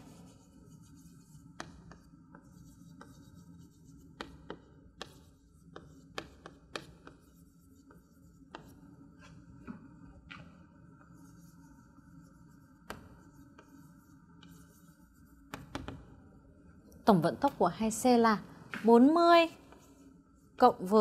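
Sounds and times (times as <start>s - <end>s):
chalk writing on a chalkboard: 0.0s - 16.2s, 19.4s - 20.6s.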